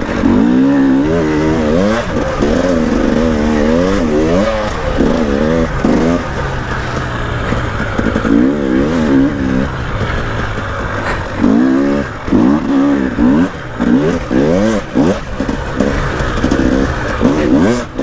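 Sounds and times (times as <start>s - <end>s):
motorbike engine revving: 0.0s - 18.0s.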